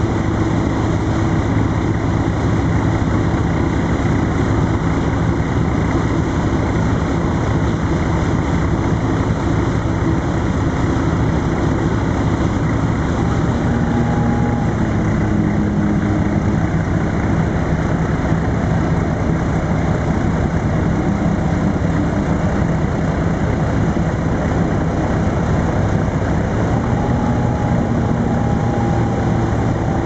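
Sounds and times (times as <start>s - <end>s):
powerboat engine drone: 0.0s - 30.0s
rushing water and wind: 0.0s - 30.0s.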